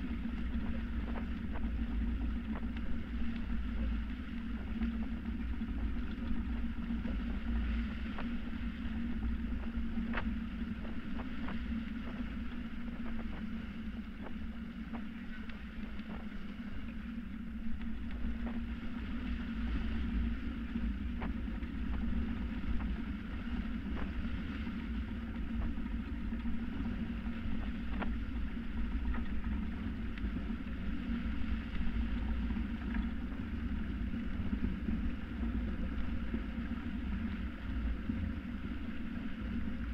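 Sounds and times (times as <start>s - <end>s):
steady low rumble: 0.0s - 39.9s
water rushing along a hull: 0.0s - 39.9s.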